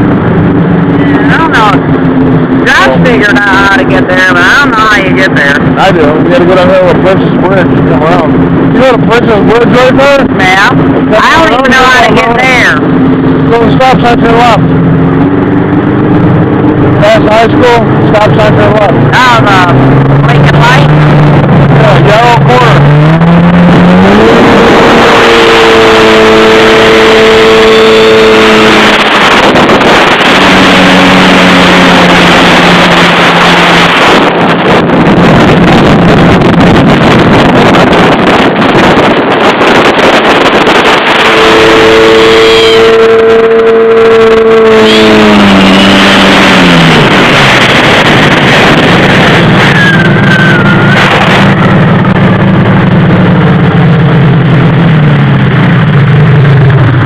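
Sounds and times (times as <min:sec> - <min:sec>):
jet ski engine running: 0:00.0 - 0:57.0
rush of wind and water: 0:00.0 - 0:57.0.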